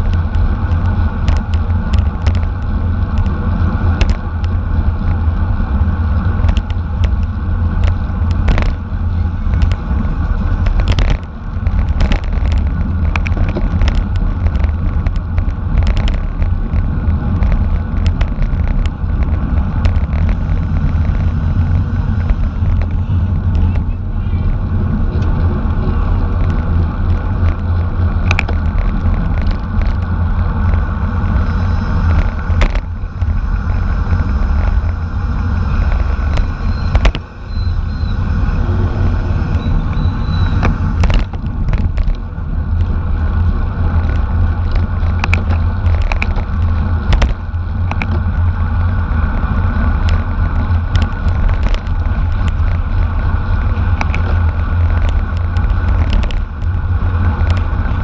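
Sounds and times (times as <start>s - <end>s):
bicycle clicks and knocks: 0.0s - 58.0s
wind buffeting microphone: 0.0s - 58.0s.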